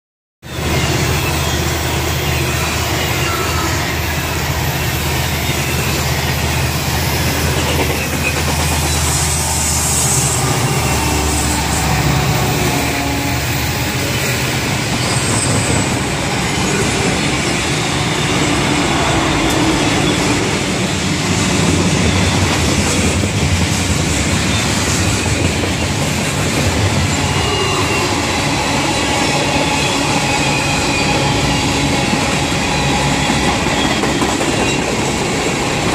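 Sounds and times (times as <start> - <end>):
diesel locomotive engines: 0.4 - 35.9
train wheels clacking on rails: 0.6 - 35.9.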